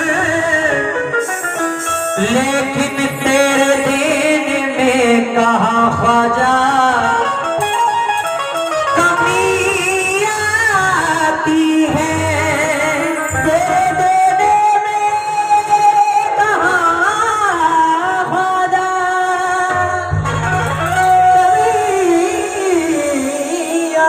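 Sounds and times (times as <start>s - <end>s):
harmonium: 0.0s - 24.0s.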